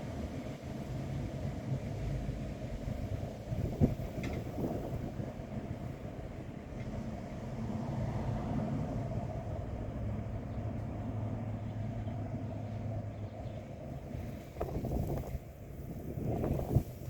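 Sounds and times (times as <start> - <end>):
wind gusting on microphone: 0.0 - 17.0.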